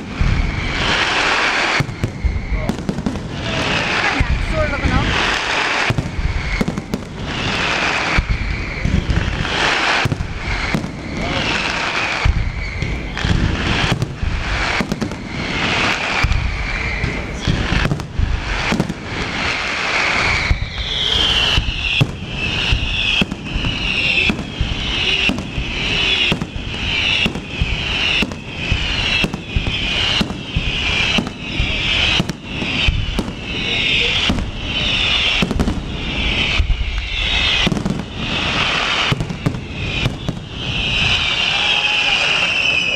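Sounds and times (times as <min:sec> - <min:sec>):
descending firework whistles: 0:00.0 - 0:42.9
fireworks bangs and cracks: 0:00.0 - 0:42.9.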